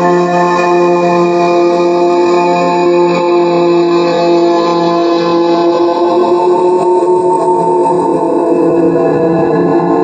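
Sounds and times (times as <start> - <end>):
ambient drone music: 0.0 - 10.0.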